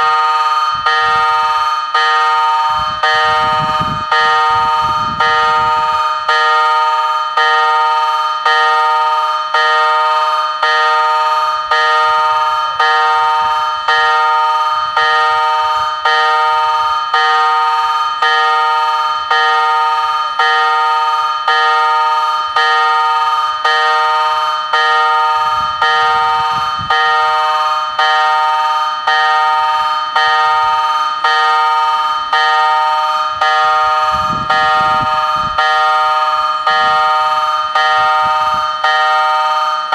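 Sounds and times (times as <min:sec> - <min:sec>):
level-crossing warning bell ringing: 0:00.0 - 0:39.9.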